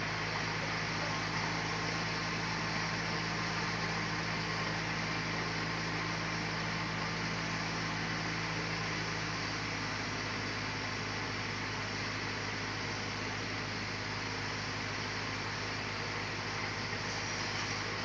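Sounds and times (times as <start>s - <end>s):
constant hiss: 0.0s - 18.0s
sawmill machinery hum: 0.0s - 18.0s.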